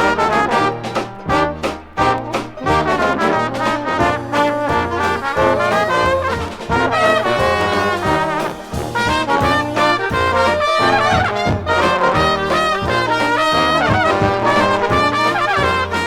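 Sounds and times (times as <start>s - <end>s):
bass line: 0.0s - 16.0s
trombone: 0.0s - 16.0s
trumpet: 0.0s - 16.0s.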